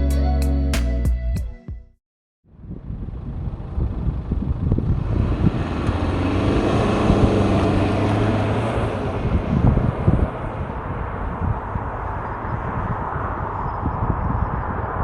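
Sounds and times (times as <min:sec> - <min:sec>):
wind and road noise: 0:02.5 - 0:15.0
diesel car engine accelerating: 0:02.8 - 0:15.0.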